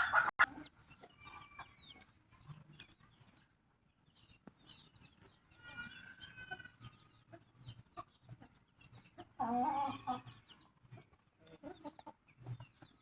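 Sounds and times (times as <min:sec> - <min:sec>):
chickens chirping: 0:00.0 - 0:13.0.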